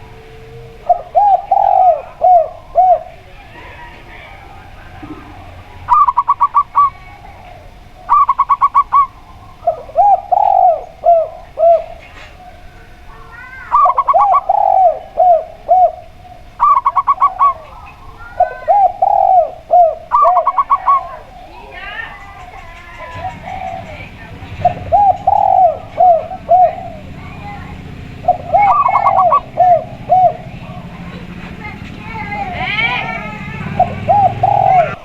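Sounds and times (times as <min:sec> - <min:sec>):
dove cooing: 0:00.0 - 0:35.0
dove trilled calls: 0:00.0 - 0:35.0.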